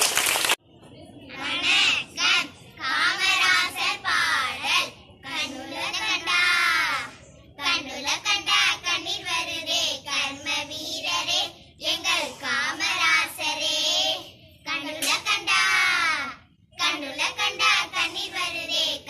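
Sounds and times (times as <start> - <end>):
girls singing together: 1.3 - 19.0.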